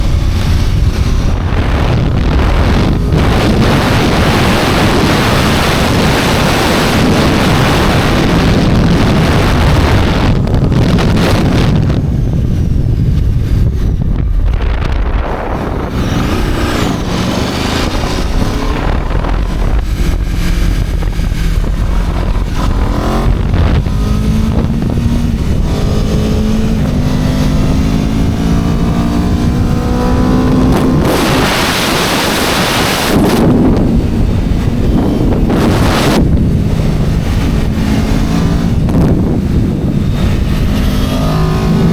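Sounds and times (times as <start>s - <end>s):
heavy wind rush: 0.0s - 41.9s
motorcycle engine accelerating: 0.0s - 41.9s.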